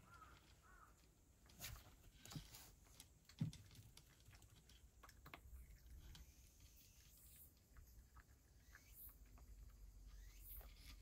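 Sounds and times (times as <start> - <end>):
cat chewing and crunching: 0.0 - 11.0.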